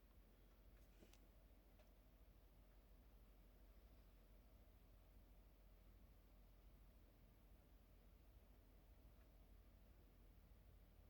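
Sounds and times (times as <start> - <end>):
faint background hum: 0.0 - 11.0.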